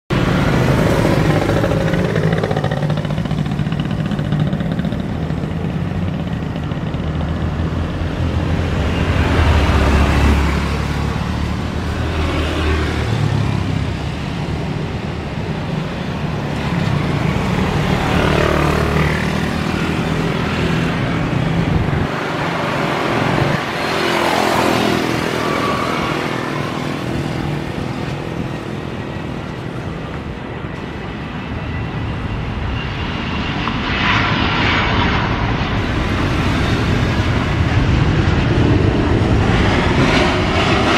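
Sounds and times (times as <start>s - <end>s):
low engine hum: 0.1s - 40.9s
vehicles passing by: 0.1s - 40.9s.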